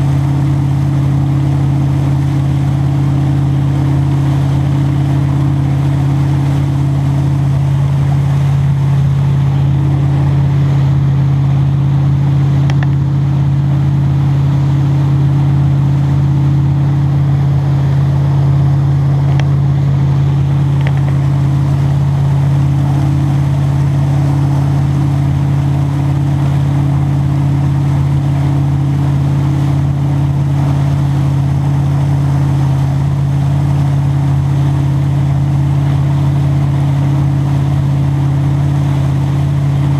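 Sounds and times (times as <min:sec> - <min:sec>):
motorboat engine drone: 0:00.0 - 0:39.9
rushing boat wake: 0:00.0 - 0:39.9.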